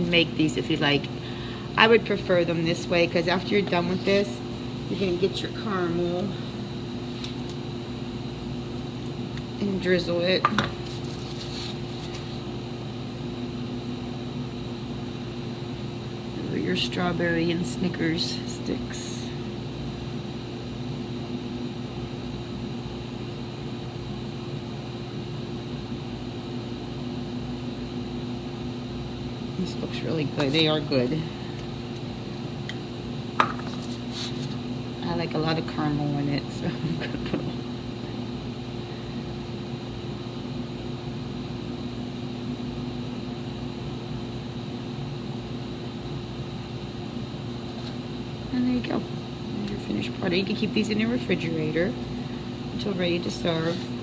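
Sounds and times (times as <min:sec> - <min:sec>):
steady background hum: 0:00.0 - 0:54.0.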